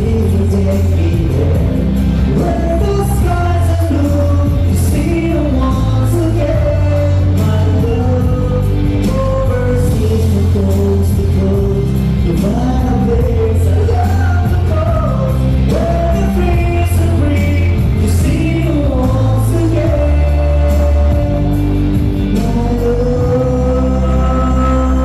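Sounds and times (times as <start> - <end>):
person singing a melody: 0.0 - 25.0
steady bass notes: 0.0 - 25.0.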